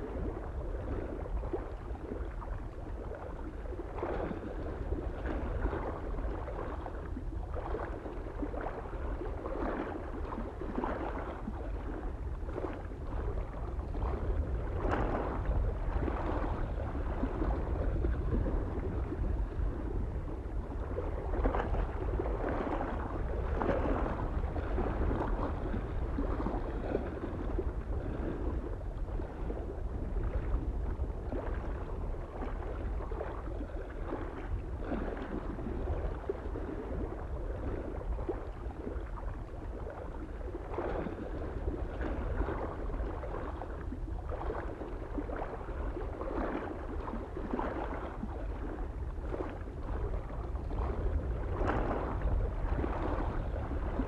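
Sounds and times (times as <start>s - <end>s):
small waves lapping on shore: 0.0s - 54.0s
wind rumble on microphone: 0.0s - 54.0s.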